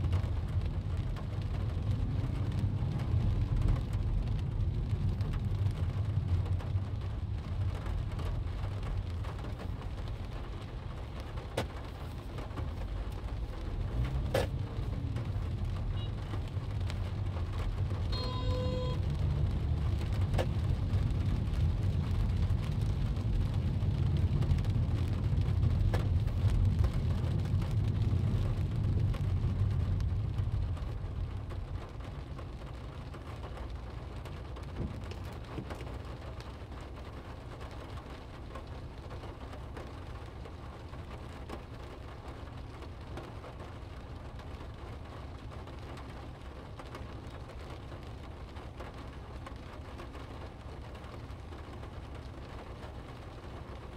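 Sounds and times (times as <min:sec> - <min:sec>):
moving car rumble: 0:00.0 - 0:53.9
rain on car windscreen: 0:00.0 - 0:53.9.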